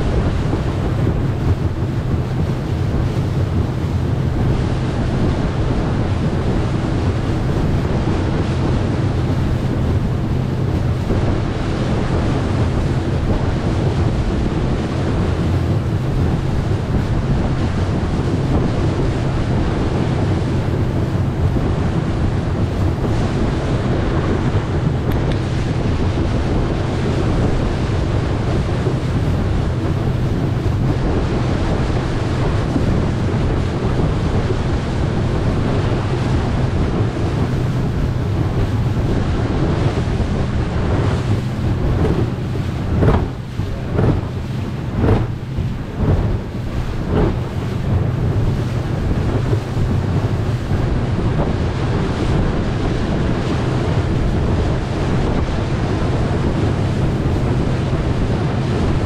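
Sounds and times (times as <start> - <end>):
motorboat engine hum: 0.0 - 59.0
water rushing past hull: 0.0 - 59.0
wind buffeting microphone: 0.0 - 59.0
water slaps: 6.5 - 59.0.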